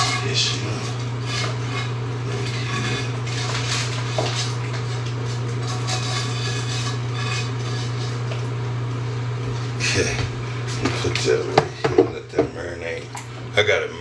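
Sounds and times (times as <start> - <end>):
dishes and utensils clattering: 0.0 - 13.5
steady low hum: 0.0 - 14.0.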